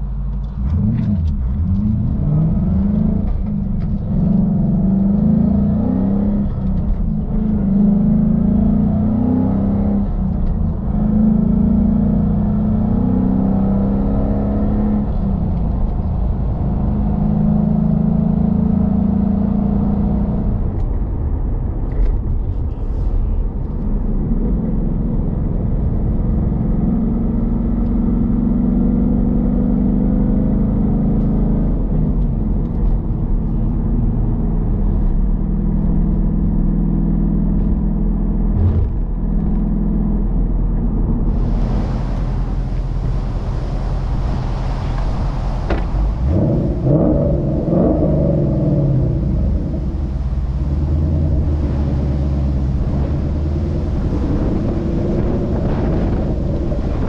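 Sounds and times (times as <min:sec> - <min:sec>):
car engine exhaust under load: 0:00.0 - 0:57.0.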